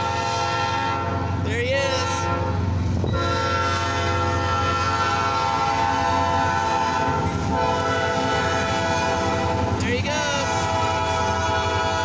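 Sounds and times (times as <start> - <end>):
train air horn blast: 0.0 - 1.2, 2.1 - 9.7, 10.4 - 12.0
locomotive rumble: 0.0 - 12.0.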